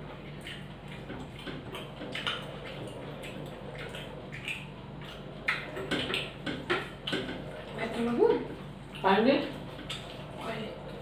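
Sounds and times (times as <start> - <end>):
chewing: 0.0 - 11.0
steady low hum: 0.0 - 11.0.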